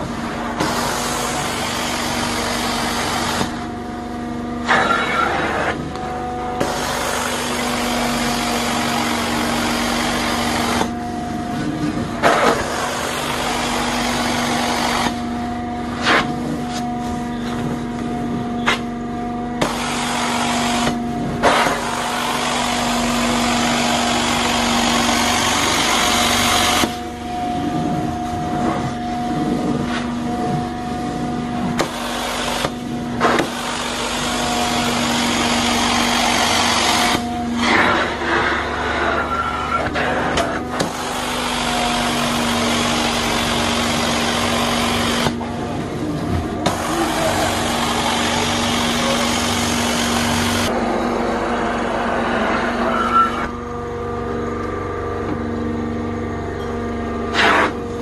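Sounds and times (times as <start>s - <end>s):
carpet cleaning machine humming: 0.0s - 58.0s.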